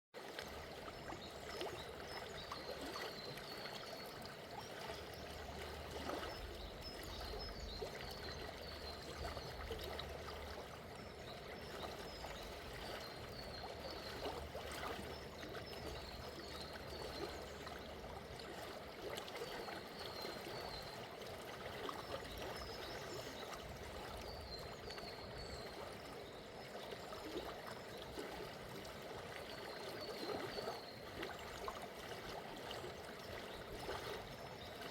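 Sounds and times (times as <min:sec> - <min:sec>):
river water babbling: 0:00.2 - 0:34.9.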